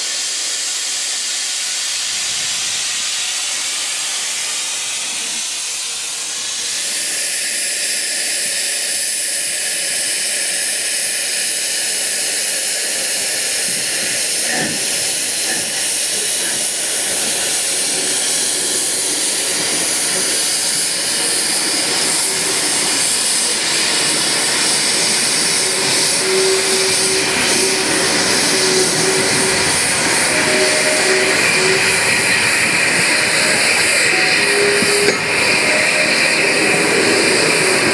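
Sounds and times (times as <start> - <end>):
steam hissing from locomotive: 0.0 - 37.9.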